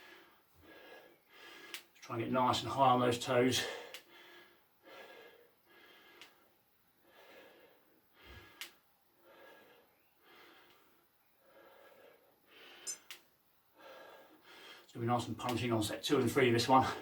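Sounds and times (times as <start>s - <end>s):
faint rhythmic breathing: 0.0s - 17.0s.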